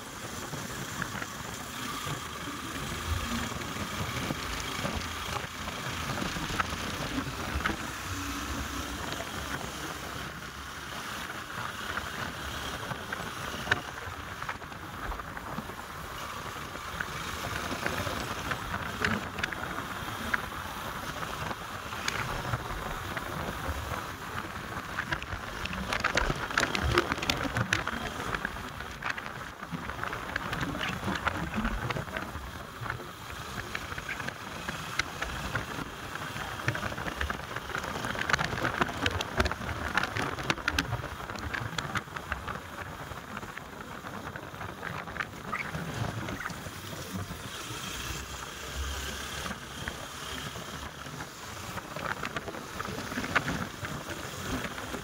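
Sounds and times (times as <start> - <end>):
small ticks and clicks: 0.3 - 55.0.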